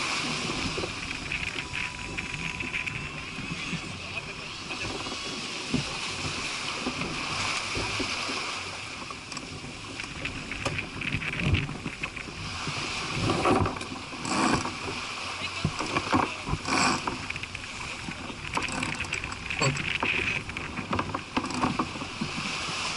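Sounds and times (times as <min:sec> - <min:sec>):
water rushing along a hull: 0:00.0 - 0:22.9
wind buffeting microphone: 0:00.0 - 0:22.9.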